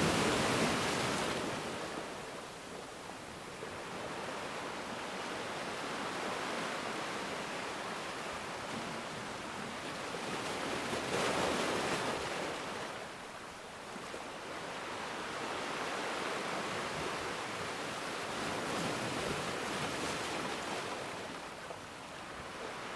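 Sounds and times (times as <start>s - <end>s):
sea waves washing ashore: 0.0s - 22.9s.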